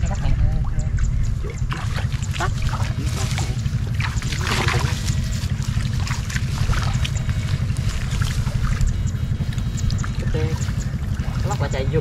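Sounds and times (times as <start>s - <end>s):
fluttering low rumble: 0.0s - 12.0s
water splashing and trickling: 0.0s - 12.0s.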